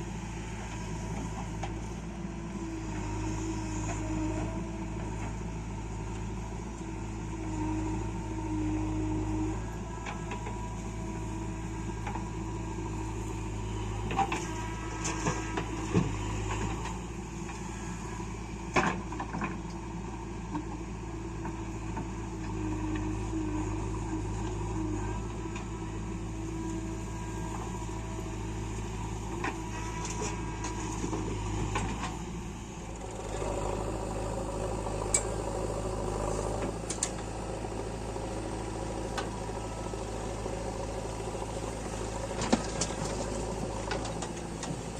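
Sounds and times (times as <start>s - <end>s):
diesel engines running: 0.0s - 44.9s.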